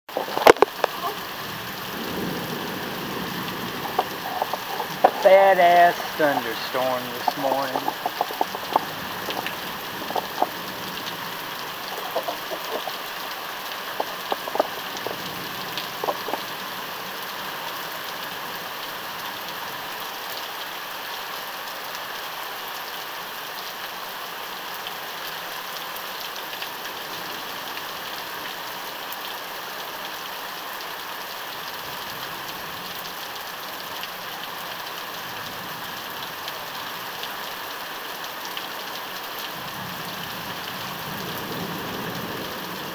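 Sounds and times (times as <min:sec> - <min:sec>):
heavy rain falling: 0:00.1 - 0:42.9.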